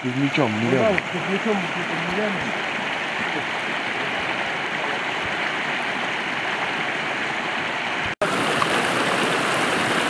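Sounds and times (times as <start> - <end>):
mountain stream over stones: 0.0 - 10.0.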